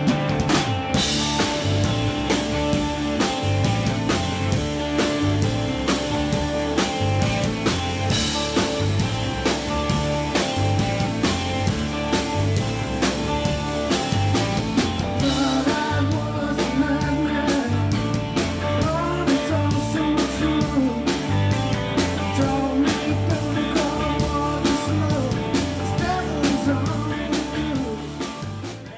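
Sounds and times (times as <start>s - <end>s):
rock music with singing: 0.0s - 28.9s.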